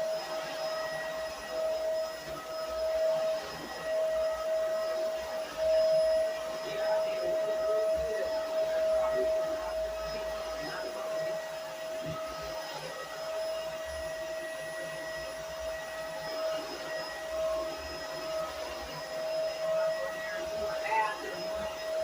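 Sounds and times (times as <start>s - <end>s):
vacuum cleaner running on carpet: 0.0s - 22.0s.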